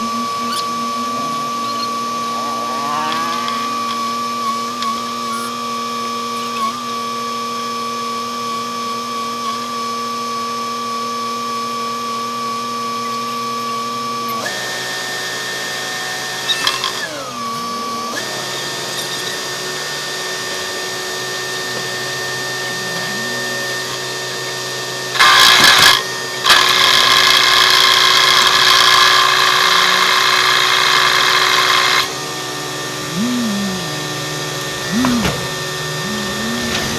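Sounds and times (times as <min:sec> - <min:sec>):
road-works machinery whining: 0:00.0 - 0:08.9, 0:12.8 - 0:36.9.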